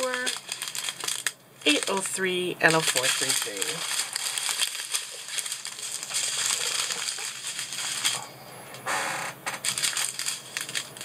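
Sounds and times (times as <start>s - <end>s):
plastic bags crinkling: 0.0s - 8.3s, 9.5s - 11.0s.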